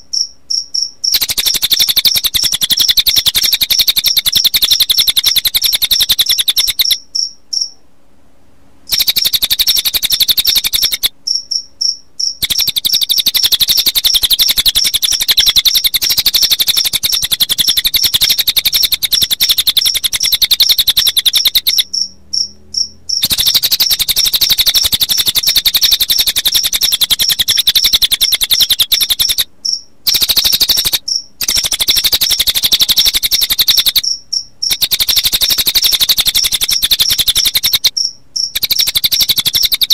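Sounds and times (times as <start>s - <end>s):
crickets chirping: 0.0s - 7.8s, 8.9s - 39.9s
high-pitched bird trill: 0.1s - 7.8s, 8.9s - 39.9s.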